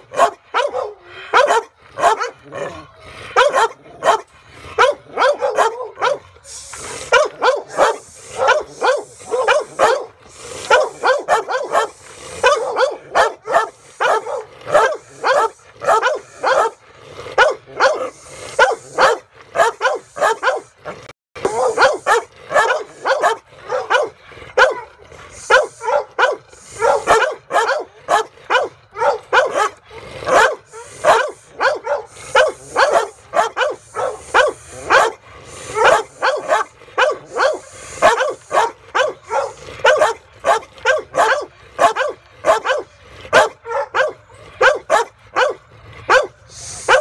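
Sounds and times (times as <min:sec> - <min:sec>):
dog barking: 0:00.1 - 0:02.8, 0:03.4 - 0:06.3, 0:07.1 - 0:16.8, 0:17.4 - 0:47.0.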